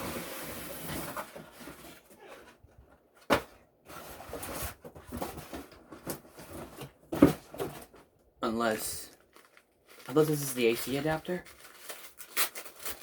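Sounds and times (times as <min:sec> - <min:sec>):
packaging rustling and scraping: 0:00.0 - 0:08.1, 0:09.1 - 0:13.0.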